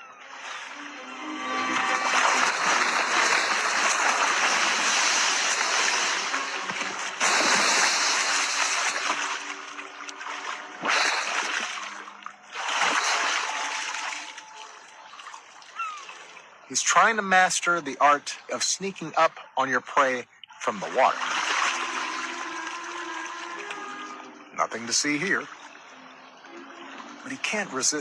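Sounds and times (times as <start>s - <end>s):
water splashing and sloshing: 0.0s - 19.2s, 20.0s - 28.0s.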